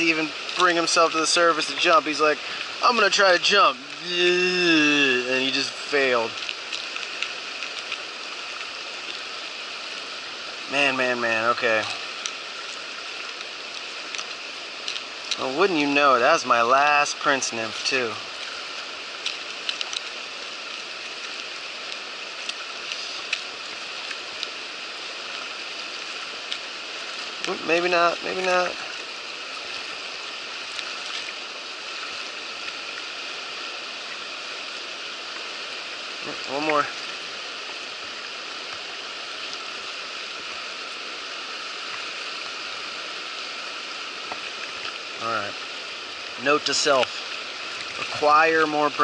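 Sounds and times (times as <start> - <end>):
fast-flowing river rushing: 0.0 - 49.0.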